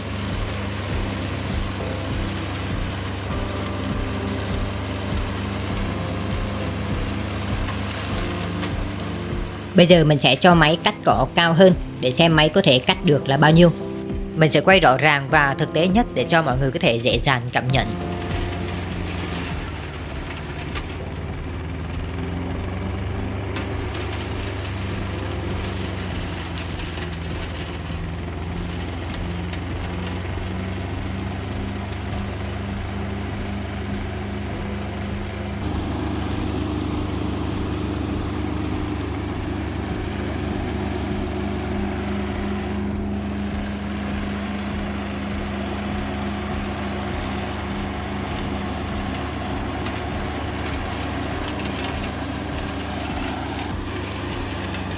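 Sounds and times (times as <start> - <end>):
flail mower cutting grass: 0.0 - 12.0, 12.6 - 17.2, 17.8 - 54.9
diesel engine running: 0.0 - 54.9.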